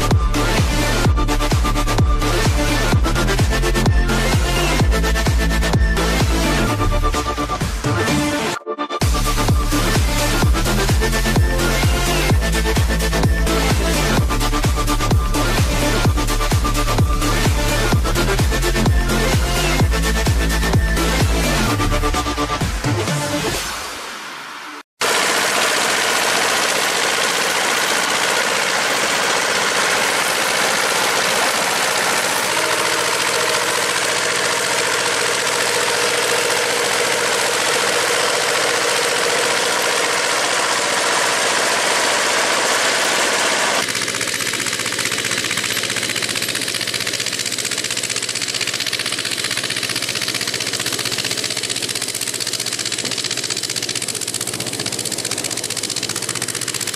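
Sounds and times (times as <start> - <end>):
tractor diesel engine running: 0.0 - 8.4, 9.0 - 22.6, 25.0 - 56.9.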